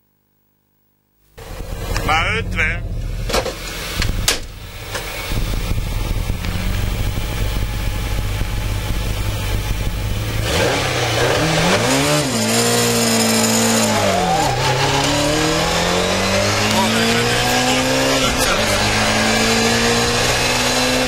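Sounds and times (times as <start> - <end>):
car engine revving in cabin: 1.4 - 21.0.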